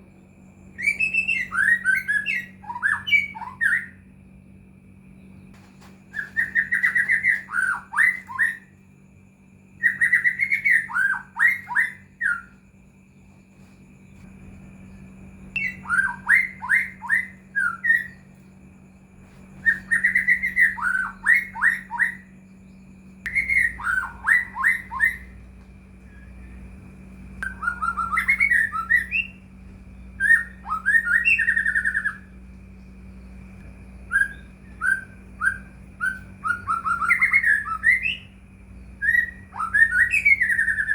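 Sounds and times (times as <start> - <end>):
bird singing falling notes: 0.1 - 40.9.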